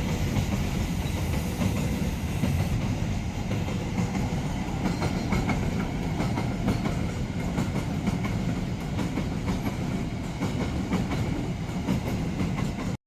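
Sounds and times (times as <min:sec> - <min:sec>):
train rumbling: 0:00.0 - 0:13.0
train wheels clattering: 0:00.0 - 0:13.0.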